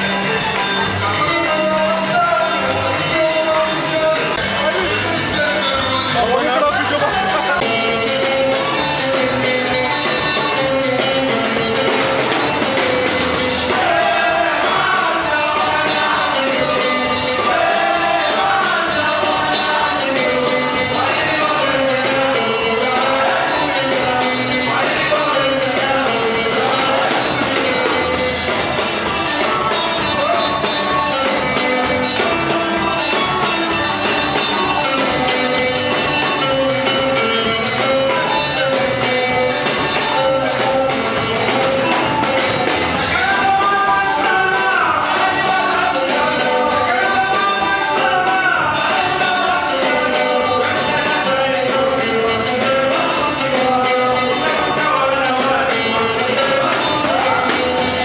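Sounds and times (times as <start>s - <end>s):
music with singing: 0.0s - 58.0s
steady percussion beat: 0.0s - 58.0s.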